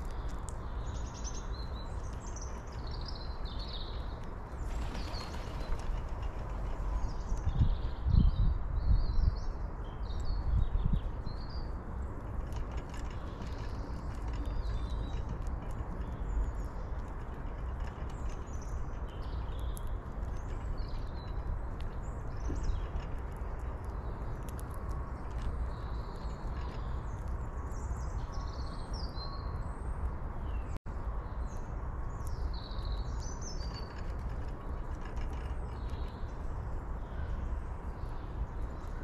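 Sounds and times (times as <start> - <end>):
low outdoor rumble: 0.0 - 39.0
small birds chirping: 0.0 - 39.0.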